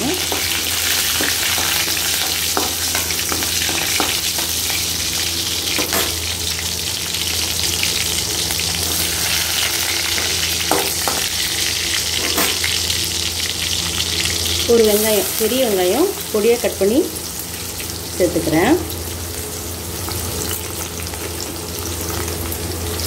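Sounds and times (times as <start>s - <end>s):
garlic sizzling in hot oil: 0.0s - 23.0s.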